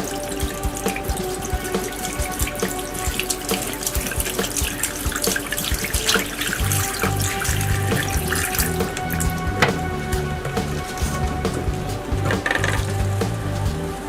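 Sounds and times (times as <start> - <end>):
water pouring and splashing: 0.0 - 13.0
background music with bass: 0.0 - 14.0.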